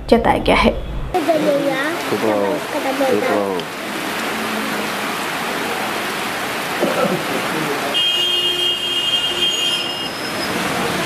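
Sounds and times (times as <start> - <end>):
rain falling on water: 1.2 - 11.0
wet street in rain: 1.2 - 11.0.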